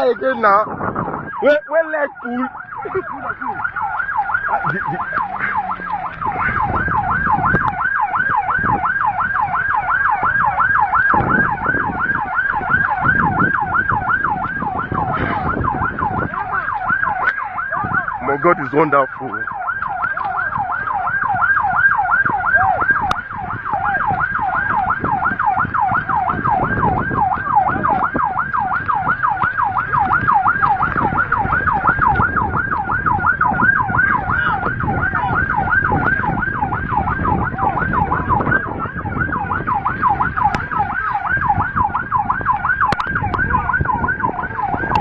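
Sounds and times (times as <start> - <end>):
emergency siren yelping: 0.0 - 45.0
low traffic rumble: 0.0 - 45.0.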